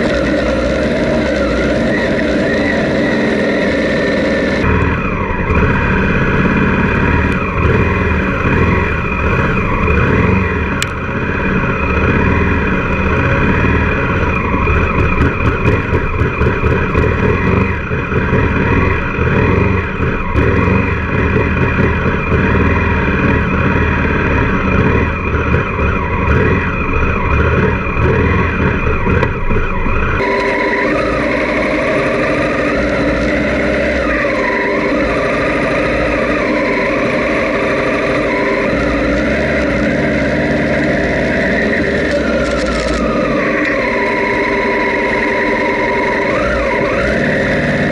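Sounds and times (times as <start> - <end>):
motorcycle engine drone: 0.0 - 47.9
motorcycle engines revving in mud: 0.0 - 47.9.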